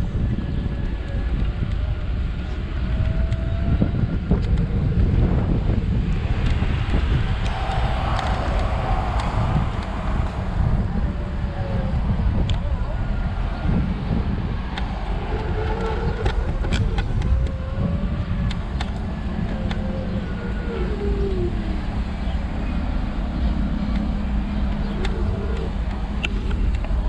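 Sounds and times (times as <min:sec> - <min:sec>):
scooter rolling rumble: 0:00.0 - 0:27.0.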